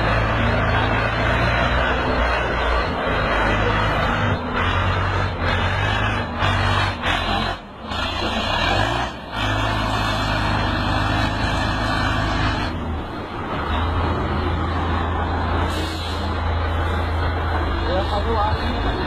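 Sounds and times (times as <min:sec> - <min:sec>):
heavy machinery engine running: 0:00.0 - 0:19.0.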